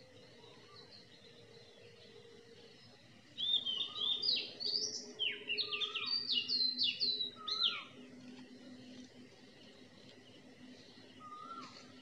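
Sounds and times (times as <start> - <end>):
faint low hum: 0.0 - 12.0
songbird singing: 0.0 - 12.0.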